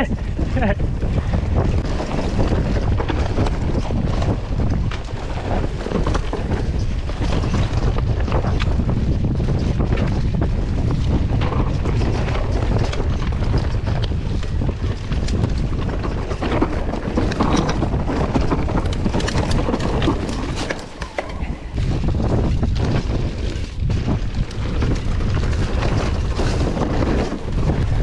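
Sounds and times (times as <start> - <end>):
bike clicks and rattles: 0.0 - 28.0
tyres rumbling on dirt: 0.0 - 28.0
wind buffeting microphone: 0.0 - 28.0.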